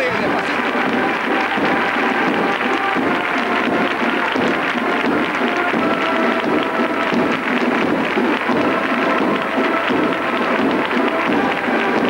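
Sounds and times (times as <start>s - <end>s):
crowd applauding: 0.0s - 12.0s
faint band music: 0.0s - 12.0s.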